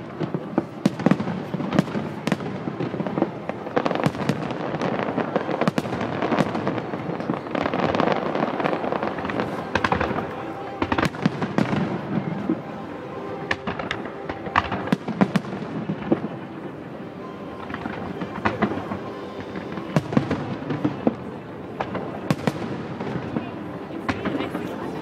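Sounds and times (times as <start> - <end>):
fireworks banging and crackling: 0.0 - 25.0.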